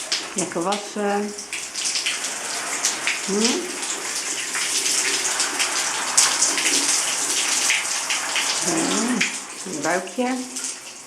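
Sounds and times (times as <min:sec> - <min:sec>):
shower spray running: 0:00.0 - 0:11.0.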